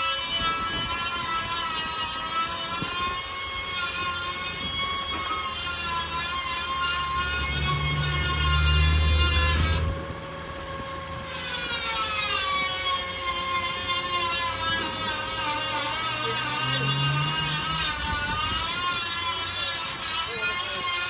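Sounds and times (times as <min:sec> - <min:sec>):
crane truck hydraulic whine: 0:00.0 - 0:21.0.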